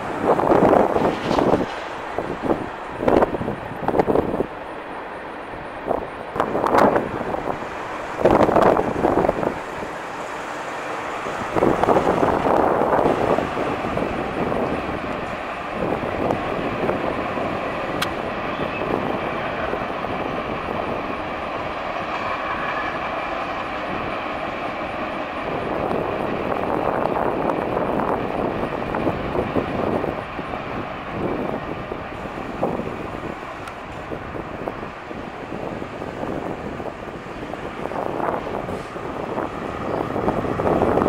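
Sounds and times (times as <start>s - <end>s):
wind noise on microphone: 0.0s - 4.6s, 5.8s - 41.0s.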